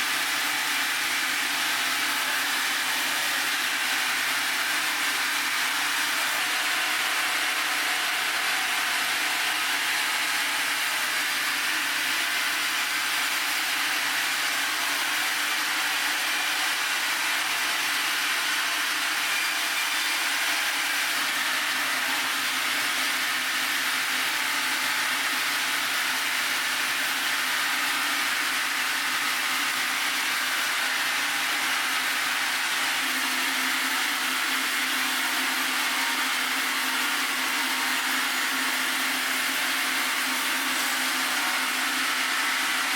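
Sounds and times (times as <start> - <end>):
sawmill saw cutting log: 0.0 - 42.9.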